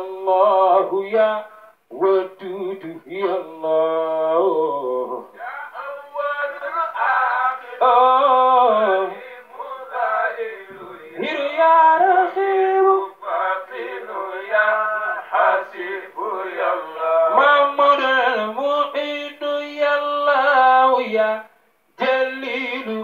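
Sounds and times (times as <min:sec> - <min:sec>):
man chanting into a microphone: 0:00.0 - 0:23.0.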